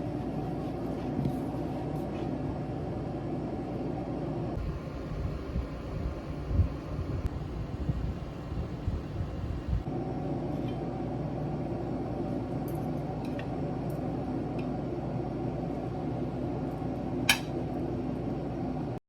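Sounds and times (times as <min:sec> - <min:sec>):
steady room hum: 0:00.0 - 0:19.0.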